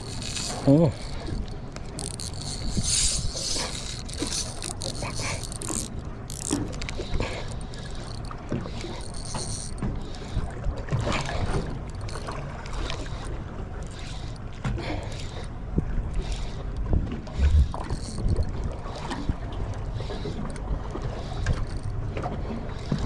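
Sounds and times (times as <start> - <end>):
fishing reel clicking: 0.0 - 16.7, 17.3 - 23.0
wind and sea rumble: 0.0 - 23.0.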